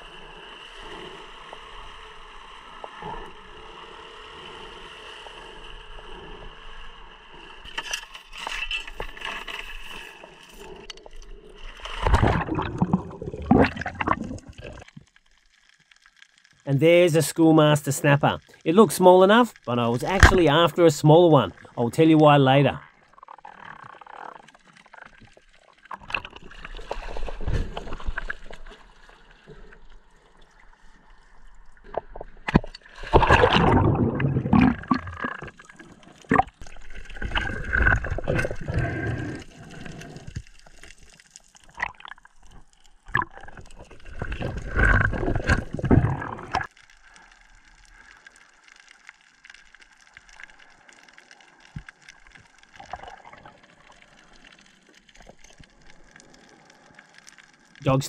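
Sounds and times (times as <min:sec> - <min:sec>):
underwater gurgling and rushing: 0:00.0 - 0:16.6, 0:18.3 - 0:58.0.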